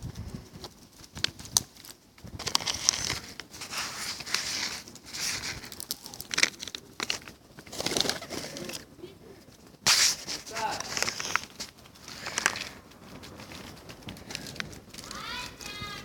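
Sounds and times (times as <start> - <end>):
bag crinkling: 1.1 - 16.0.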